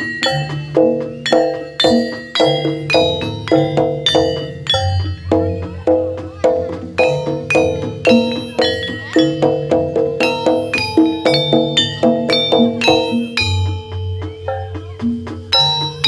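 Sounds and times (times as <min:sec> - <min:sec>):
gamelan-style instrumental music: 0:00.0 - 0:16.0.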